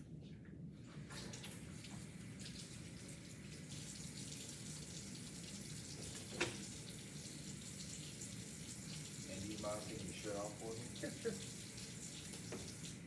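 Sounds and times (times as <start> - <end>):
tap water running into sink: 1.2 - 13.0.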